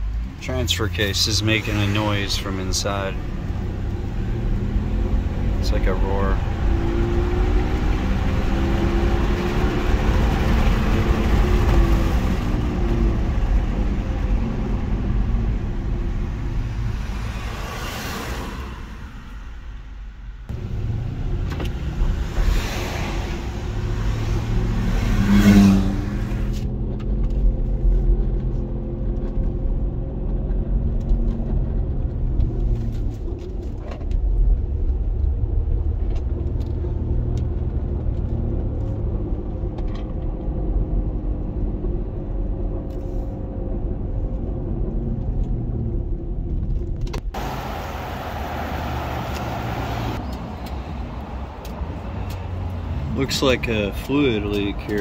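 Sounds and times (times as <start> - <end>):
car drivetrain roar: 0.0 - 55.0.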